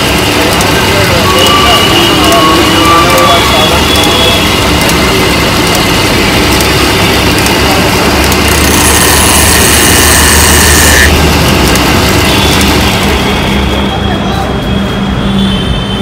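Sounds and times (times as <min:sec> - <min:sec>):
wood lathe running: 0:00.0 - 0:13.6.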